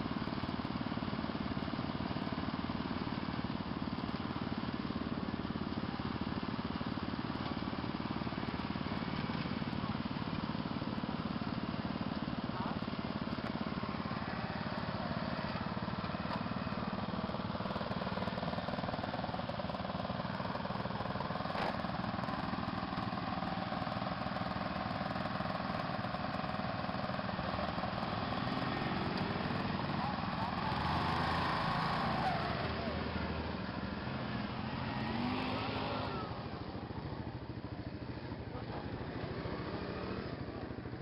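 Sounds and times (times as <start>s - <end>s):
atv engines idling: 0.0s - 41.0s
riding mower engine idling: 0.0s - 41.0s.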